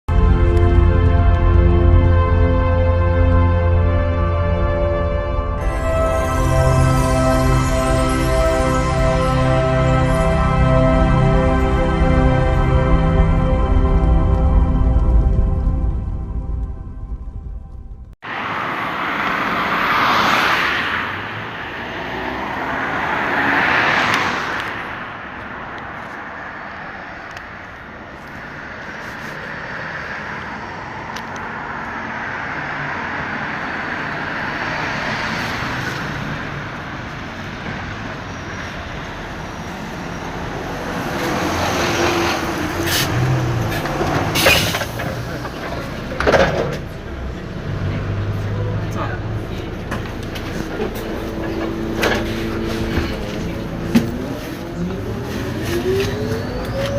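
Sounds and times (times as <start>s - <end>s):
bus pulling up: 0.1s - 56.9s
vehicles passing: 0.1s - 56.9s.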